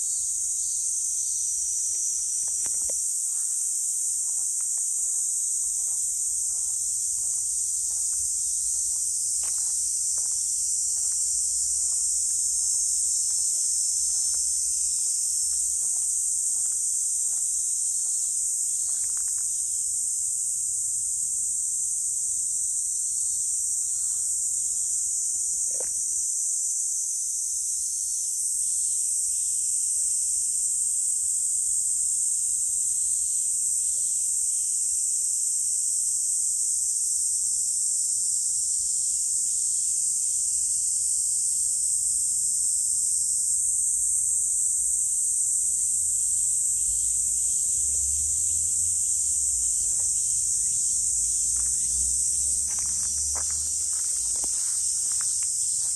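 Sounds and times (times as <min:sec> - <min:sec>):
cicadas buzzing: 0:00.0 - 0:55.9.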